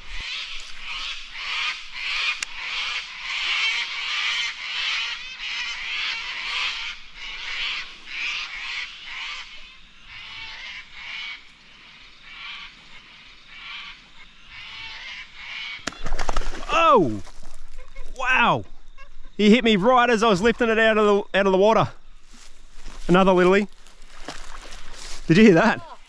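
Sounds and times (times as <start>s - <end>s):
chorus of animal calls: 0.0s - 21.2s, 25.3s - 26.0s.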